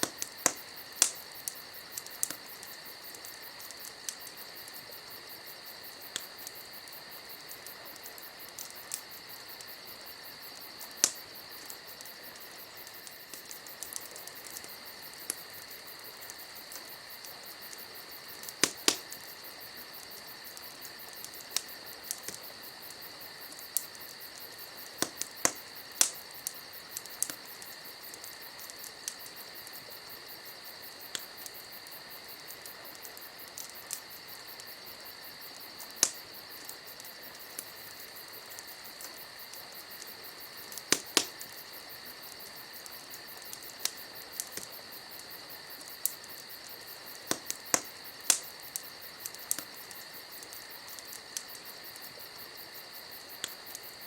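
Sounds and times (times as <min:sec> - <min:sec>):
campfire crackling and popping: 0:00.0 - 0:54.0
insects chorus: 0:00.0 - 0:54.0.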